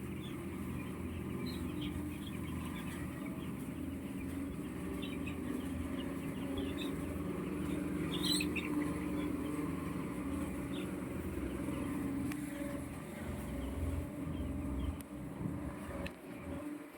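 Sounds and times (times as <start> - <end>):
low mechanical hum: 0.0 - 16.9
poultry cheeping: 0.0 - 16.9.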